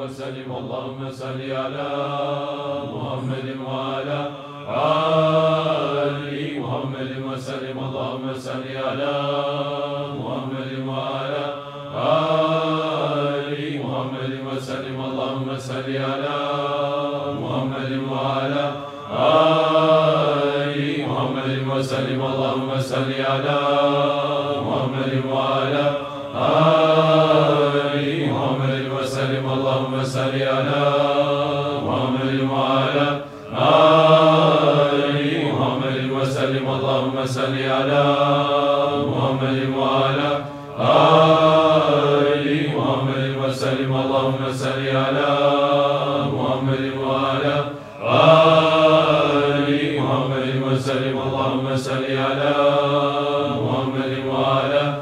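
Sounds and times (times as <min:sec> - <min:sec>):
men chanting in unison: 0:00.0 - 0:55.0.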